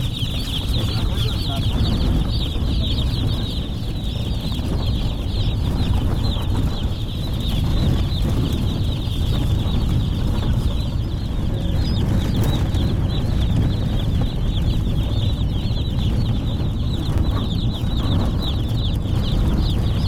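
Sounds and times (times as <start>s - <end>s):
vehicle rumble on road: 0.0s - 20.0s.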